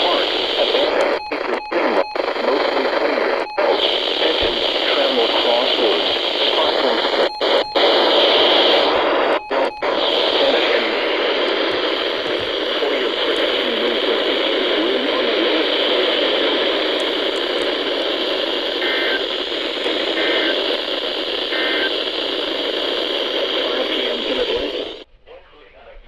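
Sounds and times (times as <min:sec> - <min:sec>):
faint data tone bursts: 0:00.0 - 0:25.0
radio static hiss: 0:00.0 - 0:26.0.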